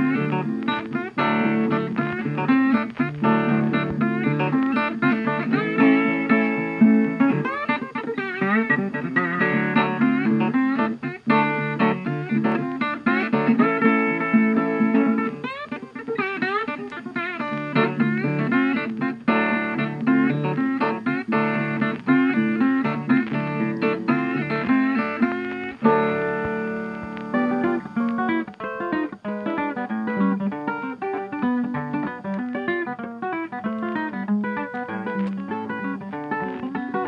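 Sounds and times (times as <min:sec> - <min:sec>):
plucked guitar music: 0:00.0 - 0:37.0.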